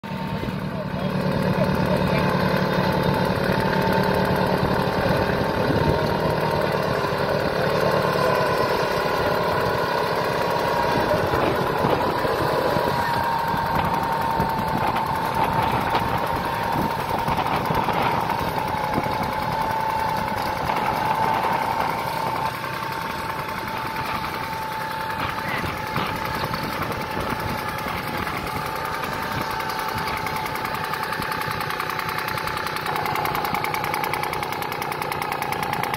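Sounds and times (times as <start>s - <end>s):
high whine: 0.0s - 31.6s
tractor engine running under load: 0.0s - 35.9s.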